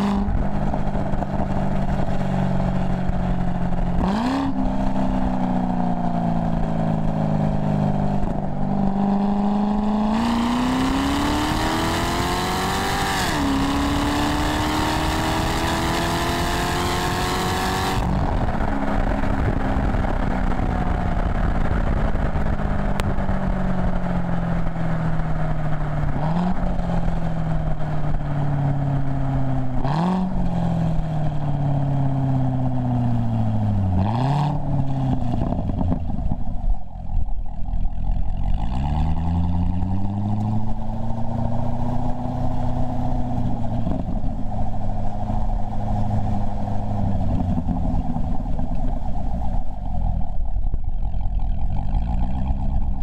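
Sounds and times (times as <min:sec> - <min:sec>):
sports car engine revving: 0:00.0 - 0:23.8, 0:26.0 - 0:53.0.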